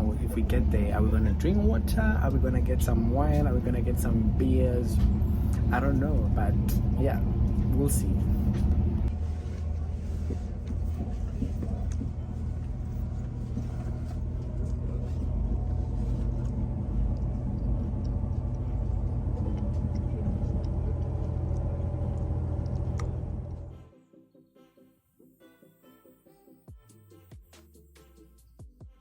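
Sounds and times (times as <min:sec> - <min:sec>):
train rumble inside carriage: 0:00.0 - 0:23.8.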